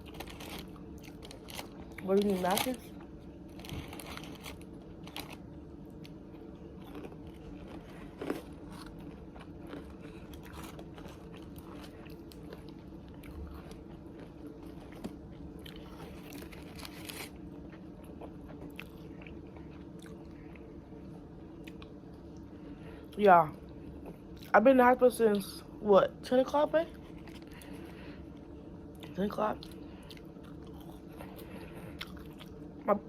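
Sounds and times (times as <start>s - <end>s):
wet chewing with crunches: 0.0s - 20.7s, 26.9s - 32.7s
steady low hum: 0.0s - 33.0s.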